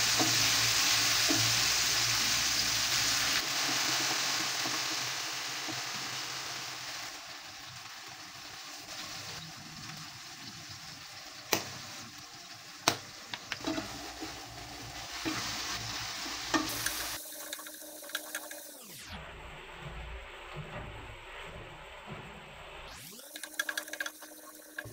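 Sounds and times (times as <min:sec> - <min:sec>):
tomatoes sizzling in oil: 0:00.0 - 0:19.0, 0:23.1 - 0:24.9.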